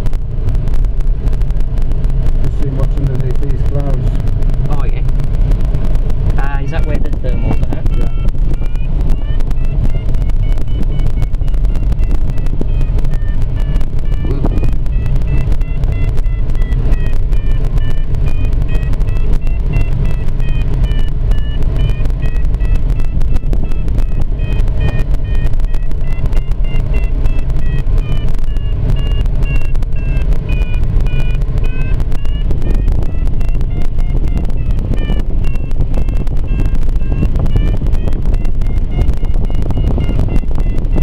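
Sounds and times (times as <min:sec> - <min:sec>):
airflow rushing in cockpit: 0:00.0 - 0:41.0
variometer beeps: 0:06.2 - 0:41.0.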